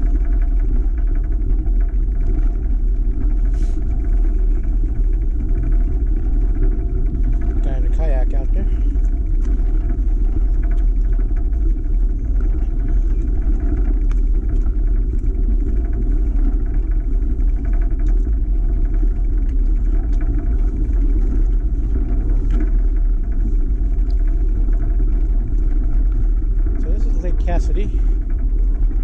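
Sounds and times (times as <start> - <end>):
bicycle tyres rumbling on boards: 0.0 - 29.0.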